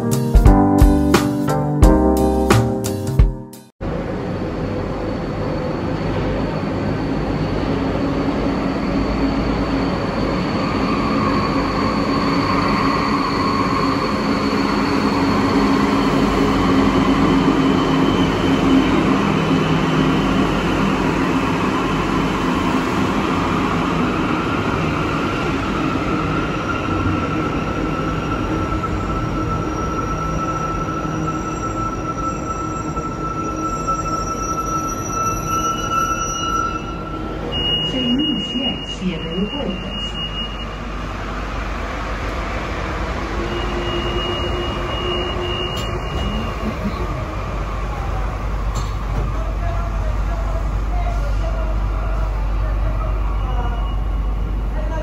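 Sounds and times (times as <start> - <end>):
metro train rolling rumble: 3.8 - 55.0.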